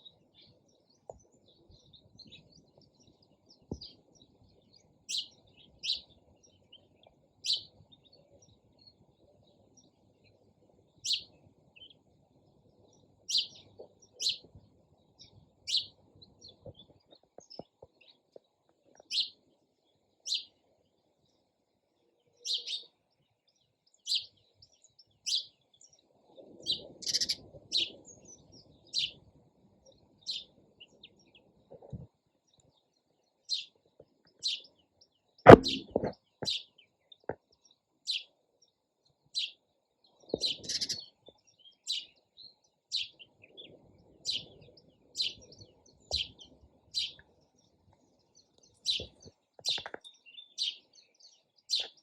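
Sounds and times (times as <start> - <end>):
faint low background noise: 0.0 - 52.0
sparrows chirping: 0.0 - 52.0.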